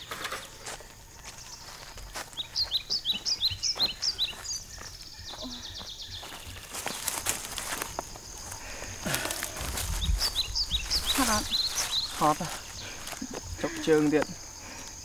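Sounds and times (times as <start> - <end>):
footsteps in dry leaves: 0.0 - 14.3
bird chirping: 0.0 - 15.0.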